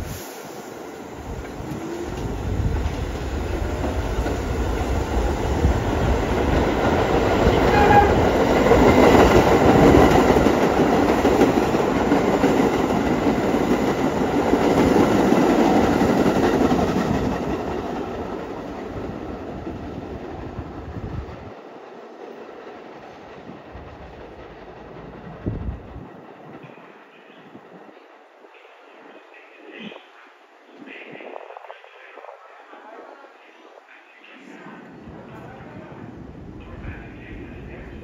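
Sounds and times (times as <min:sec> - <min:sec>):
subway train passing: 0:00.0 - 0:38.0.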